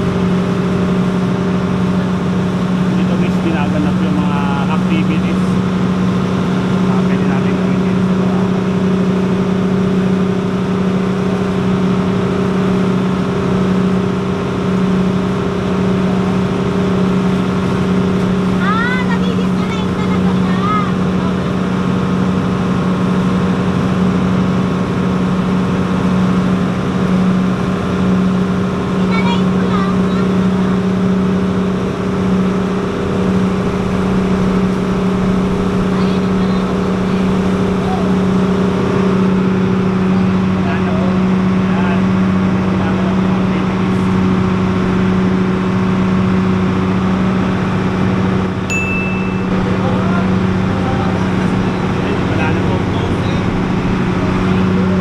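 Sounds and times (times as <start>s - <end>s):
boat engine humming: 0.0s - 55.0s
rushing water: 0.0s - 55.0s
wind: 0.0s - 55.0s.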